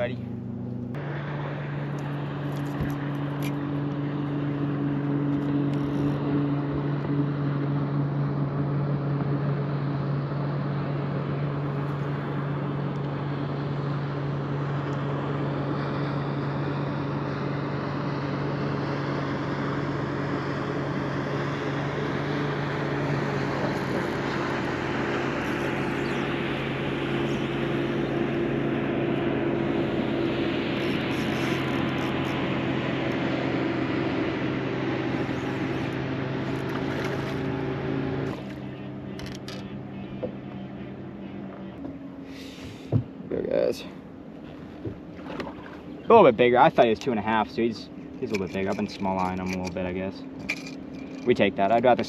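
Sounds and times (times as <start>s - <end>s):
outboard motor running: 0.0s - 52.0s
wind and water noise: 0.0s - 52.0s.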